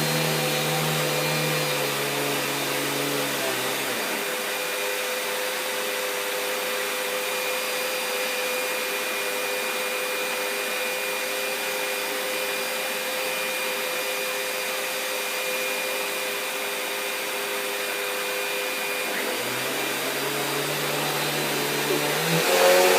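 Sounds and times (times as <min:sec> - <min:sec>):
vacuum cleaner whirring: 0:00.0 - 0:22.9.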